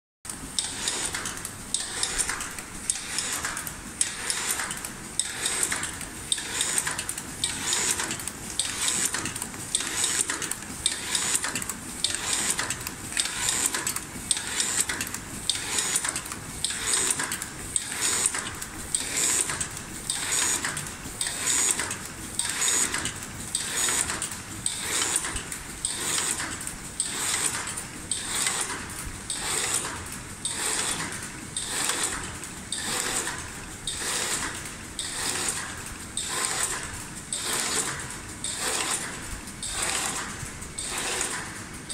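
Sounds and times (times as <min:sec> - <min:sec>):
envelope sealing machine clattering: 0:00.3 - 0:41.9.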